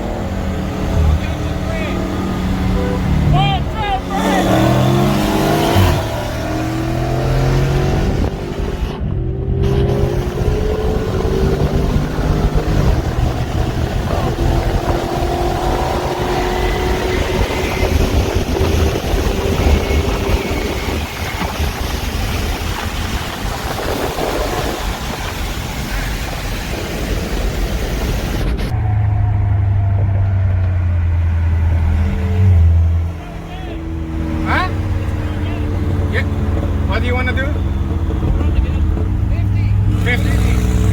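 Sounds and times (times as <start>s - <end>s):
car engine accelerating: 0.0s - 40.9s
wind and road noise: 0.0s - 40.9s.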